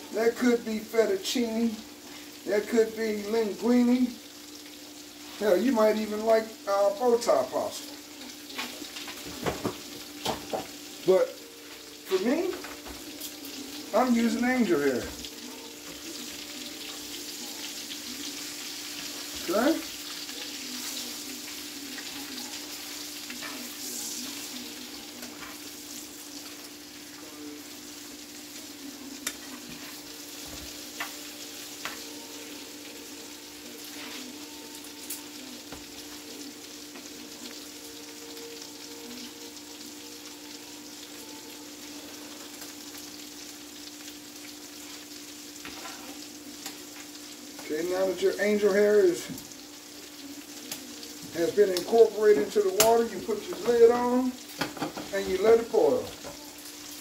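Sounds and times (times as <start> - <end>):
chicken sizzling in a skillet: 0.0 - 57.0.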